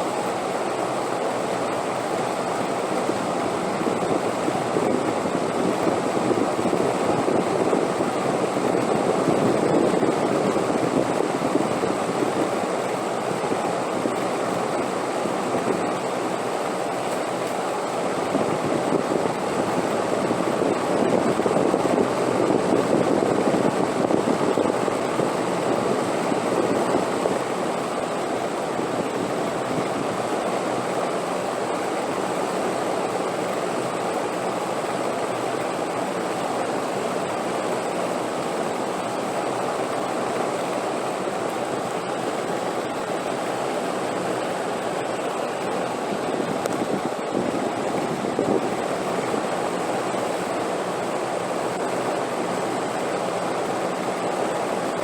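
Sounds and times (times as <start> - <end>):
rushing wind: 1.6 - 55.0.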